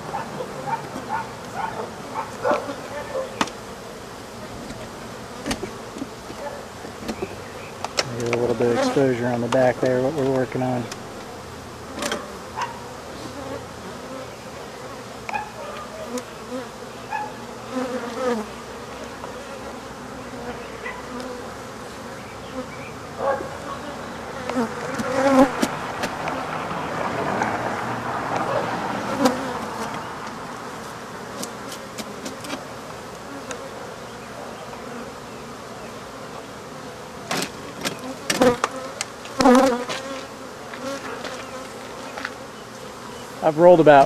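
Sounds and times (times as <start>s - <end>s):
bee swarm buzzing: 0.0s - 44.0s
single bees buzzing by: 0.0s - 44.0s.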